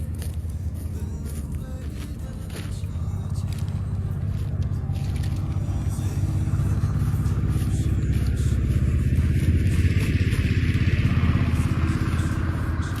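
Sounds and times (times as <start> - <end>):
vehicle rumbling on road: 0.0 - 13.0.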